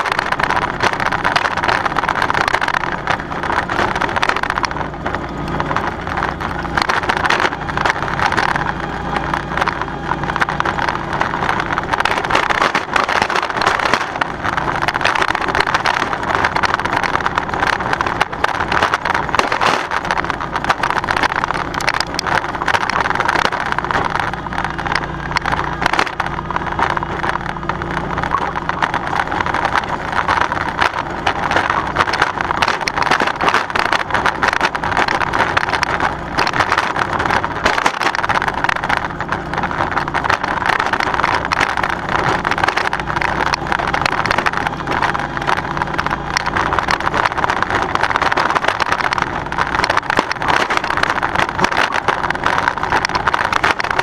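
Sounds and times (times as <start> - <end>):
aerator rattling and clattering: 0.0 - 54.0
lawn tractor engine running: 0.0 - 54.0.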